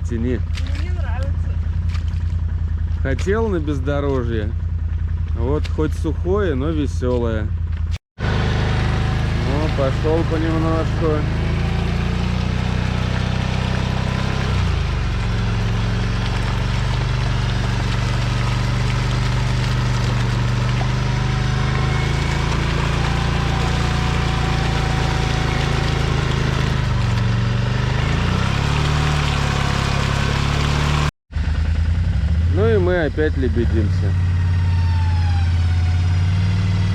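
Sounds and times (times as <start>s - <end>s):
quad bike engine running: 0.0s - 36.9s.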